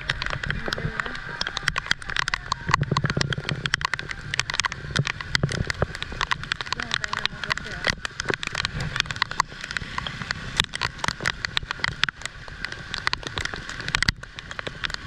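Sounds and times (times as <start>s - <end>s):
heavy rain hiss: 0.0s - 15.0s
raindrops hitting close by: 0.0s - 15.0s.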